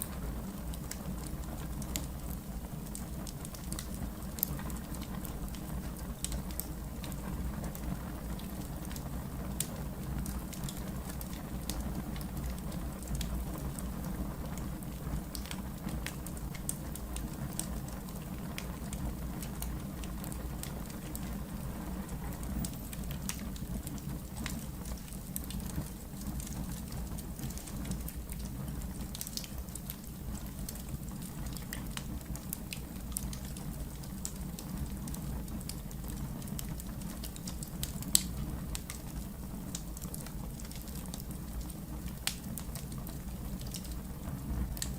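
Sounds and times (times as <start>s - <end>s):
fire crackling and snapping: 0.0s - 44.9s
wood fire rumbling: 0.0s - 44.9s.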